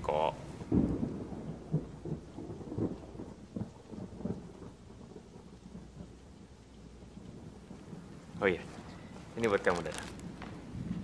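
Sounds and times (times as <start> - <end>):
low rolling thunder: 0.0 - 11.0
steady rain: 0.0 - 11.0.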